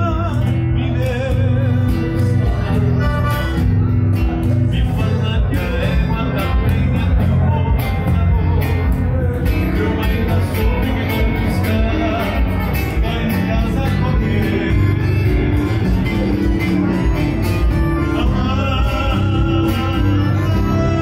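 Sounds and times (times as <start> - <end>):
accordion: 0.0 - 21.0
acoustic guitar: 0.0 - 21.0
electric bass: 0.0 - 21.0
man singing: 0.0 - 21.0.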